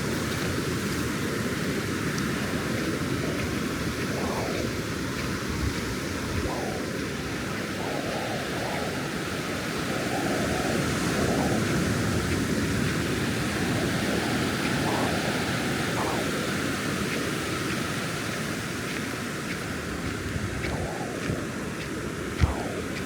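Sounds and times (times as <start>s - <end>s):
ocean surf washing ashore: 0.0s - 23.0s.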